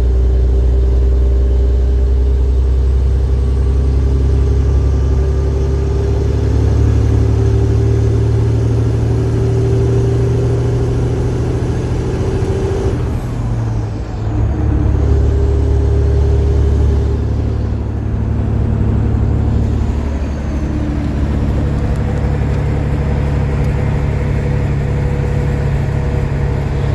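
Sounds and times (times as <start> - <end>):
truck diesel engine under load: 0.0 - 26.9.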